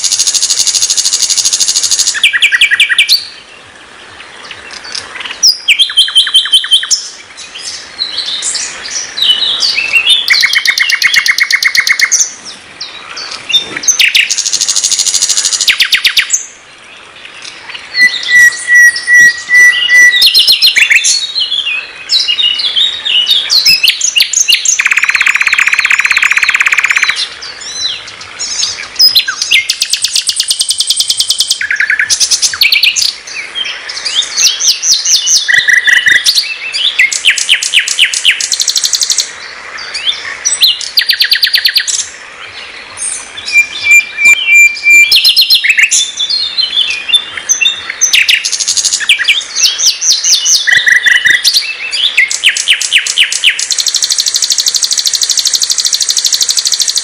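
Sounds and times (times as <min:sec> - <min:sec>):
nightingale singing: 0:00.0 - 0:57.0.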